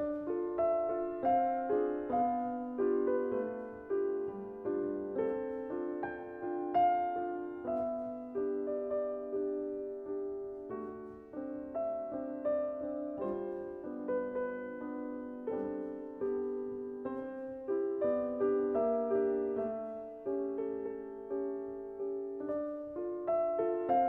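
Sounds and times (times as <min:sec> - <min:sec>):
gentle solo piano: 0:00.0 - 0:24.0.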